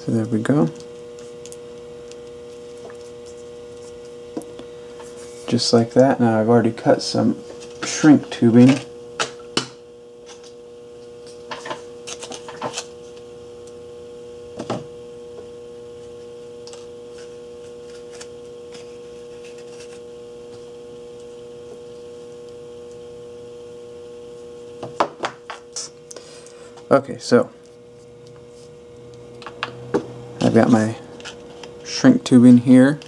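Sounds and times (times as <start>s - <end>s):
electrical hum: 0.0s - 33.0s.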